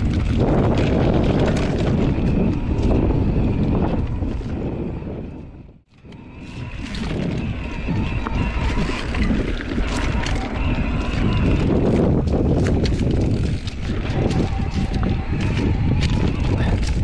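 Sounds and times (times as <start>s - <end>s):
bike rattling over rough ground: 0.0s - 17.0s
wind buffeting microphone: 0.0s - 17.0s.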